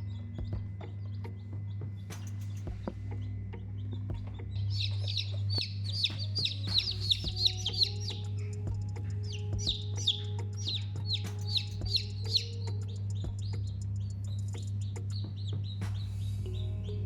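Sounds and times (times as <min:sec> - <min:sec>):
baby chicks peeping: 0:00.0 - 0:17.0
steady low hum: 0:00.0 - 0:17.0.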